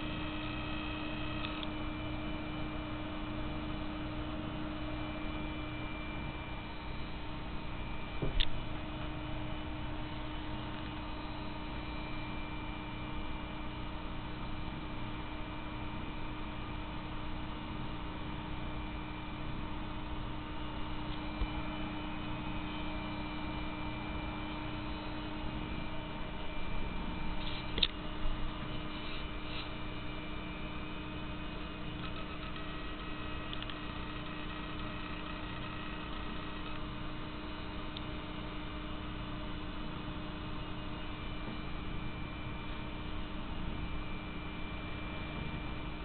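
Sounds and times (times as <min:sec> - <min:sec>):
steady electrical hum: 0:00.0 - 0:46.0.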